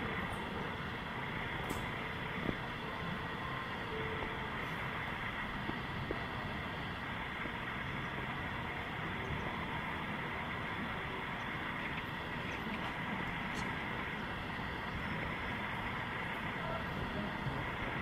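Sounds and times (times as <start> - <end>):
low rumble and hiss: 0.0 - 18.0.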